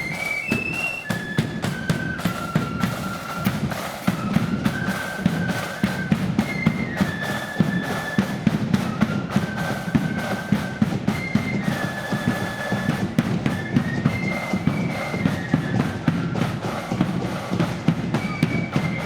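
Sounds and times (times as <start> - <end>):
flutes playing melody: 0.0 - 19.0.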